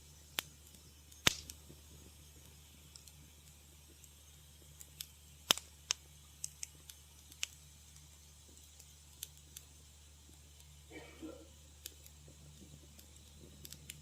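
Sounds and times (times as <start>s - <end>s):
low steady hum: 0.0s - 14.0s
wood fire crackling: 0.0s - 14.0s.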